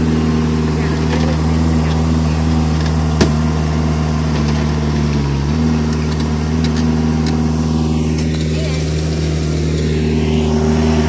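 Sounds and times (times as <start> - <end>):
skid steer engine running: 0.0 - 11.0.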